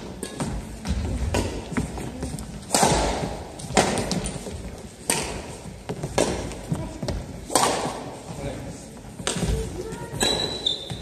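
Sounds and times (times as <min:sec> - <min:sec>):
racket striking shuttlecock: 0:00.0 - 0:08.2, 0:09.2 - 0:10.6.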